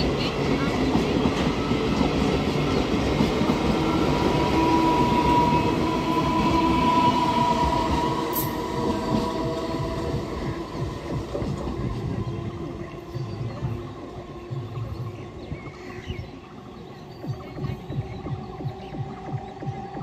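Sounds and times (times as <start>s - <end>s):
train rail rumble: 0.0s - 20.0s.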